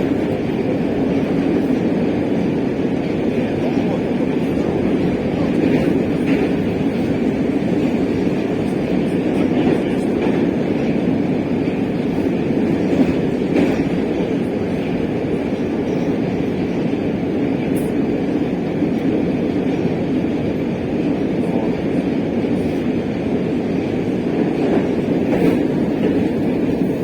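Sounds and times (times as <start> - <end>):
wheels rumbling on rails: 0.0 - 27.0.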